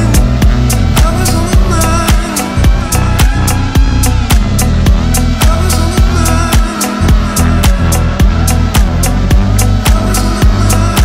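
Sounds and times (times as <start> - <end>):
kick drum beat: 0.0 - 10.6
hi-hats: 0.0 - 11.0.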